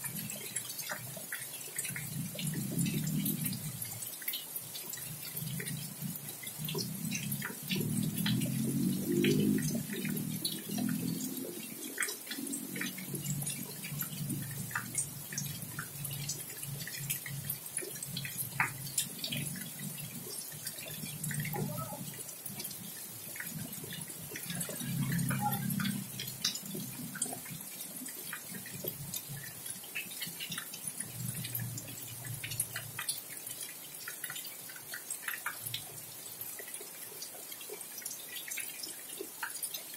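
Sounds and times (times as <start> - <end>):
rain dripping and splashing: 0.0 - 39.9.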